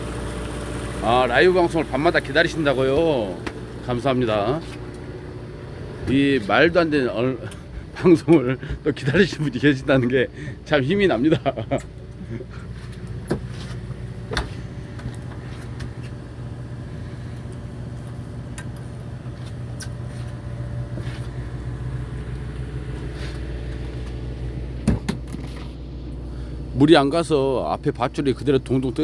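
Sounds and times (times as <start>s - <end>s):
boat engine hum: 0.0s - 29.0s.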